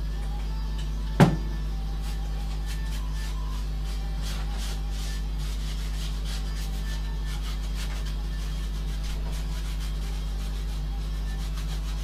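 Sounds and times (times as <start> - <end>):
low electrical hum: 0.0 - 12.0
hand tool rubbing wood: 1.8 - 12.0.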